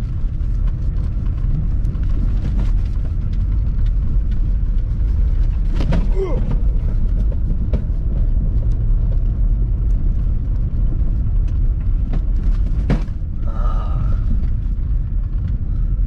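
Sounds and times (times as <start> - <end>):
vehicle interior low rumble: 0.0 - 16.0.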